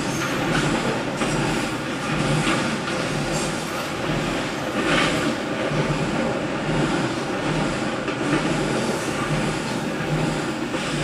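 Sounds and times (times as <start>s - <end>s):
train rumbling across steel bridge: 0.0s - 11.0s.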